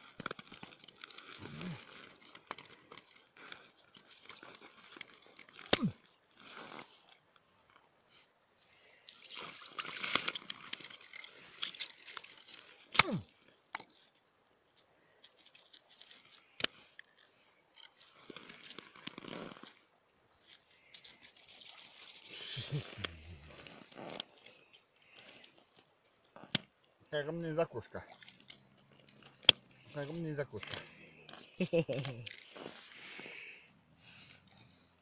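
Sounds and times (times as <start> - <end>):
crunching and scraping on ice: 0.0 - 7.8, 9.2 - 14.2, 15.2 - 35.0.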